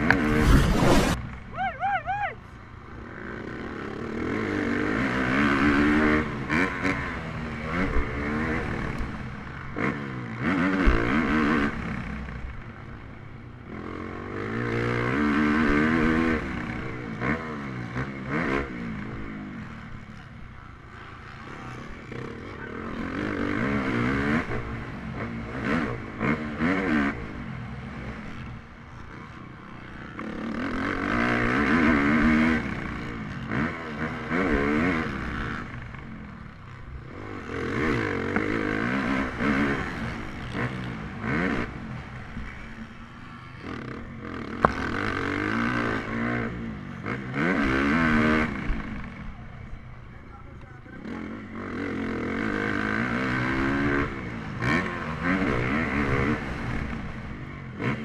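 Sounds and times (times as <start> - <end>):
motocross bike engine revving: 0.0 - 2.2, 3.0 - 12.7, 13.7 - 49.7, 50.9 - 58.0.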